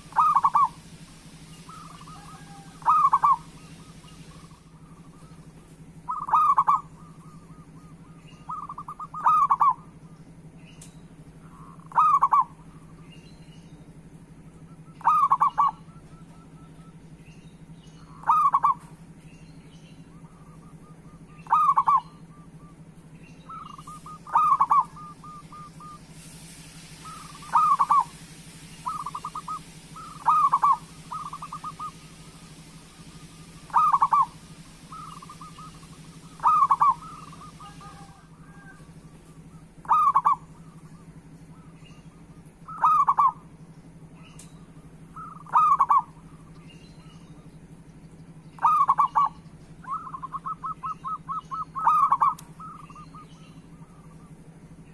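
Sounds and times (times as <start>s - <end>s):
dove cooing: 0.0s - 10.0s, 11.4s - 13.0s, 14.5s - 17.1s, 18.1s - 19.0s, 20.0s - 43.5s, 45.0s - 46.5s, 48.6s - 54.5s
faint steady hum: 0.0s - 54.9s
soft rolling trills: 0.0s - 54.9s.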